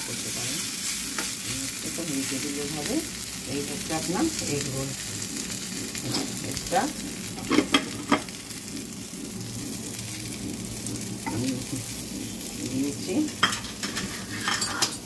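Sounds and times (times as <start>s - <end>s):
frying sizzle in a pan: 0.0s - 15.0s.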